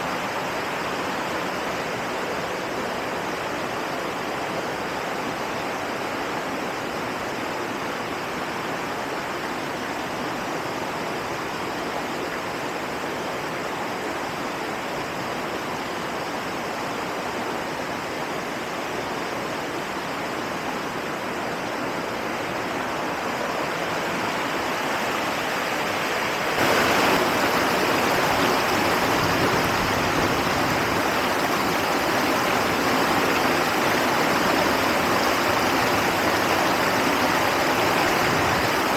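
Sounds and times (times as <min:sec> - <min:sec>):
rushing river water: 0:00.0 - 0:38.9.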